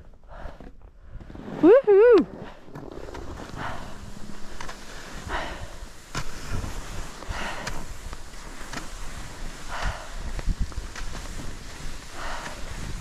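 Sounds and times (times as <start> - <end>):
wind rumbling on microphone: 0.0 - 13.0
skis swishing on snow: 0.3 - 13.0.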